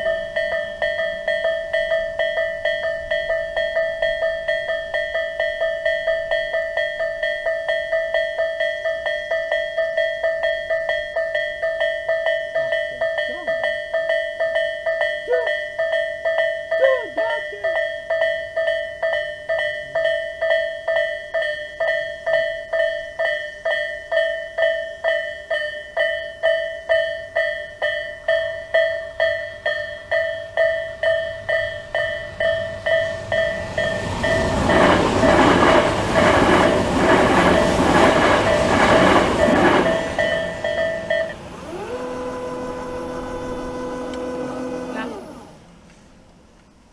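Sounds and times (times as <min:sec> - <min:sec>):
level crossing bell ringing: 0:00.0 - 0:35.2, 0:35.8 - 0:45.6
train rolling past: 0:00.0 - 0:46.9.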